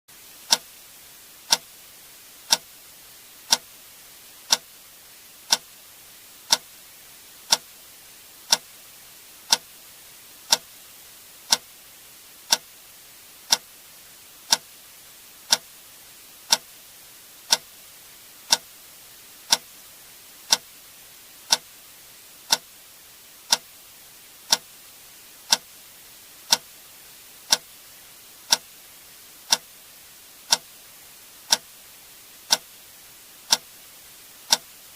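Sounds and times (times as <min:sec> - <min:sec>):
faint steady hiss: 0:00.1 - 0:34.9.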